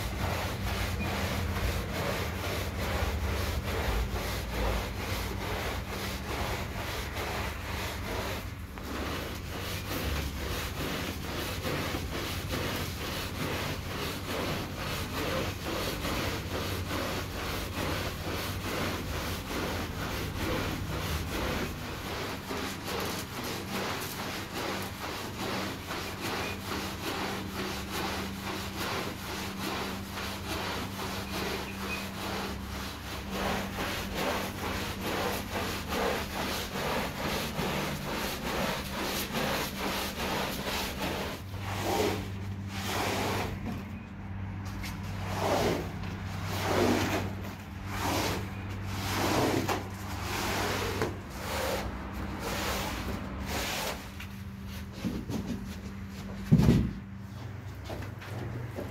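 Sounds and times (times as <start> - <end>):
squeegee pushing water: 0.0 - 56.3
brush scrubbing wet rug: 0.0 - 58.9.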